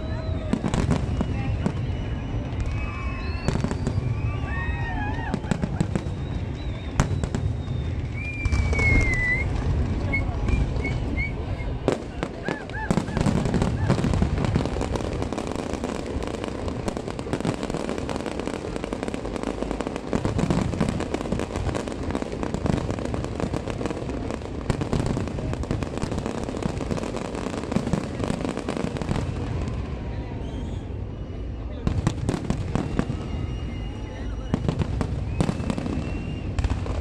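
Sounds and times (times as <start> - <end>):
deep fireworks booms: 0.0 - 31.1, 31.7 - 37.0
fireworks bangs and crackling: 0.0 - 37.0.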